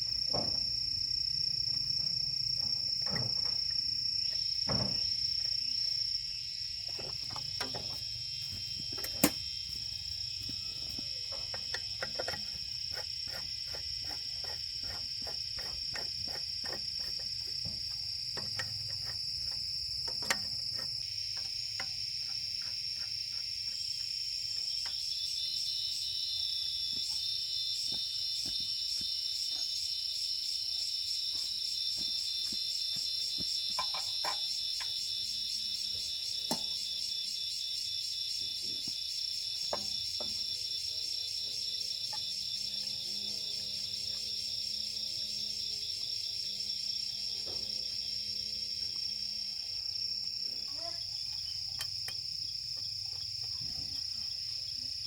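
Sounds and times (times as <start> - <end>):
high-pitched insect-like trill: 0.0 - 55.0.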